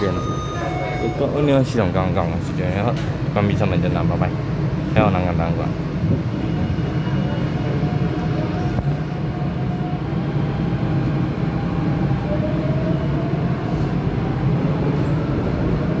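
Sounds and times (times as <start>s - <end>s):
train wheels rumbling on rail: 1.0s - 16.0s.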